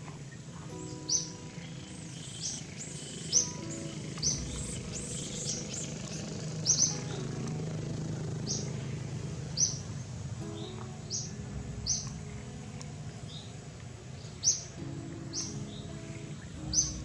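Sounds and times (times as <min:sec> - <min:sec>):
small birds chirping: 0:00.0 - 0:17.0
steady low rumble: 0:01.8 - 0:17.0.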